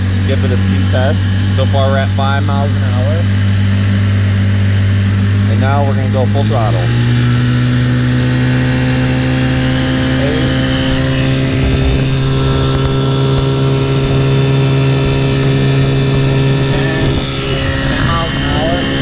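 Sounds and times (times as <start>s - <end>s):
outboard motor at full throttle: 0.0s - 19.0s.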